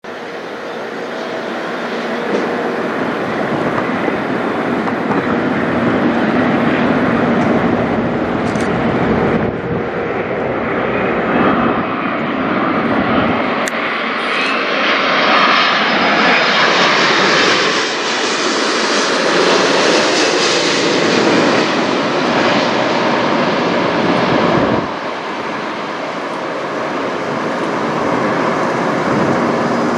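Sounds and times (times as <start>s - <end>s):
jet airliner passing overhead: 0.0s - 29.9s.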